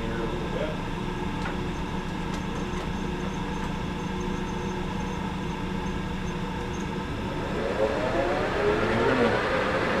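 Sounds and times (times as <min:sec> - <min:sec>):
metal lathe humming: 0:01.7 - 0:10.0.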